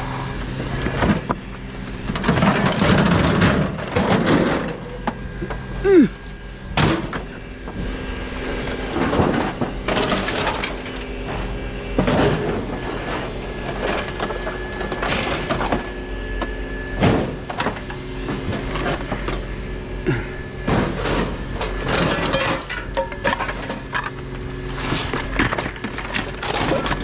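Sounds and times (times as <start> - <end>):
engine hum: 0.0 - 27.0
junk cracking and clattering: 0.6 - 19.5, 20.1 - 27.0.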